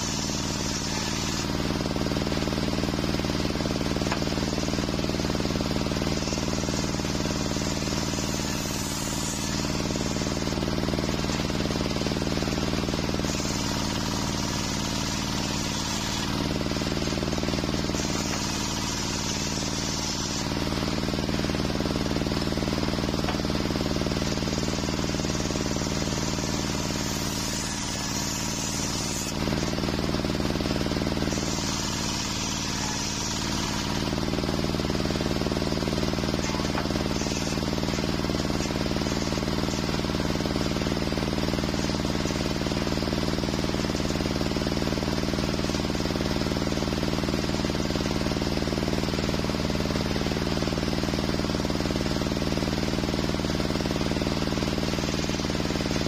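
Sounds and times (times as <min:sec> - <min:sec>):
saw blade cutting wood: 0:00.0 - 0:48.4, 0:54.7 - 0:56.0.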